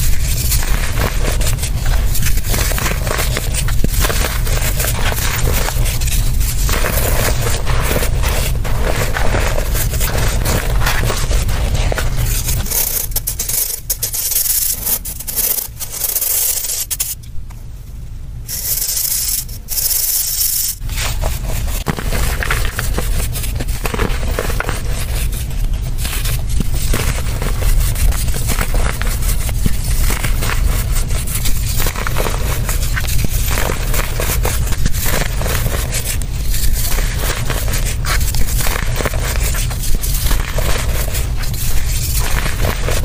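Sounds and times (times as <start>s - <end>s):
powder pouring through sieve: 0.0s - 17.1s, 18.5s - 43.0s
sieve scraping against basin: 0.0s - 17.2s, 18.5s - 43.0s.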